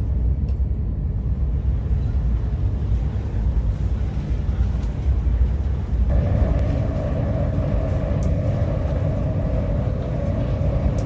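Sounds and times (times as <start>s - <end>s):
train rumble inside passenger car: 0.0s - 11.0s.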